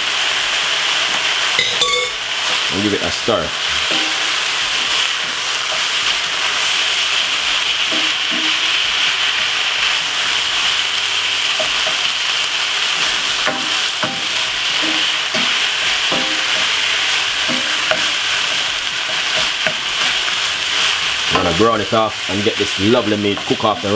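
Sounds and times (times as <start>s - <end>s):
meat sizzling in frying pan: 0.0s - 23.9s.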